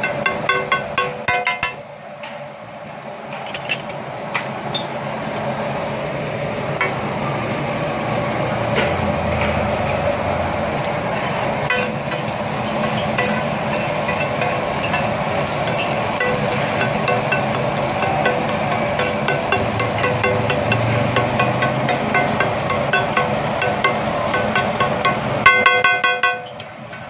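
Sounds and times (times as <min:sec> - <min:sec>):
food sizzling on griddle: 0:00.0 - 0:27.0.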